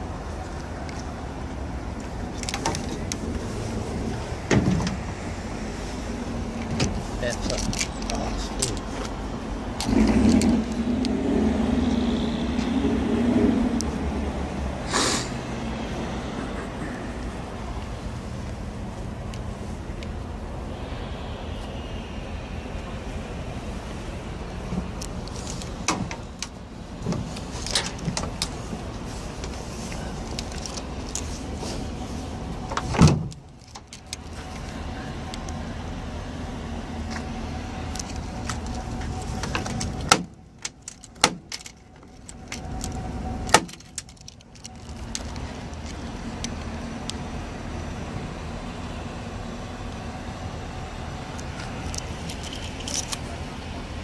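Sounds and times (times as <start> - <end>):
pickup engine idling: 0.0 - 54.0.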